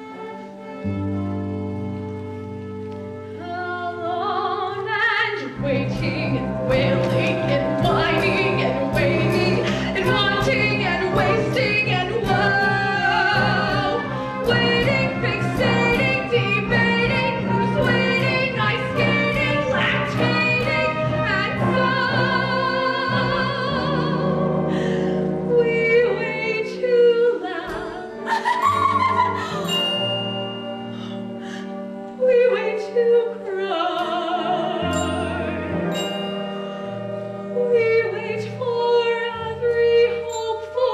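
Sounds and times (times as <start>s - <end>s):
instrumental accompaniment: 0.0s - 40.9s
woman singing: 3.4s - 30.1s, 31.4s - 35.7s, 37.4s - 40.9s.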